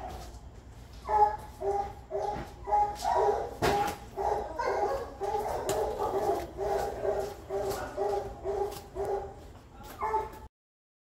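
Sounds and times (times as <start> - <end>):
dog barking: 1.0 - 9.4, 10.0 - 10.5.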